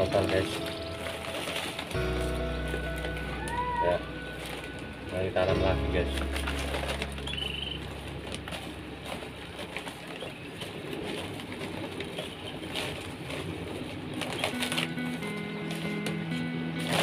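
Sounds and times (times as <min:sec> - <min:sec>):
hands rustling soil: 0:00.0 - 0:17.0.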